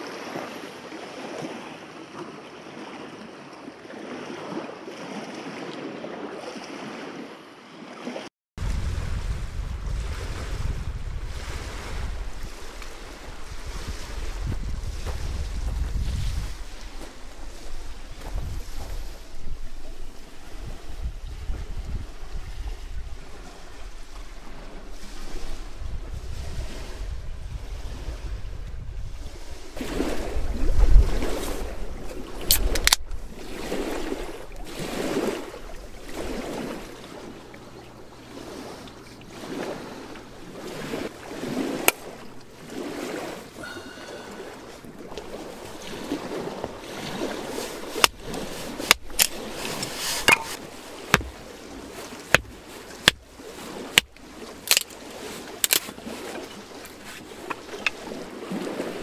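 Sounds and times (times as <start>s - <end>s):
waves washing against shore: 0.0s - 59.0s
wind rumbling on microphone: 8.6s - 59.0s.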